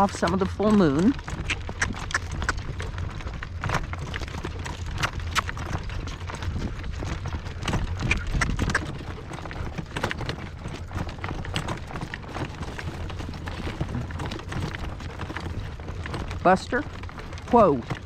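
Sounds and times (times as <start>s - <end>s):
horse hooves trotting on dirt: 0.0s - 18.0s.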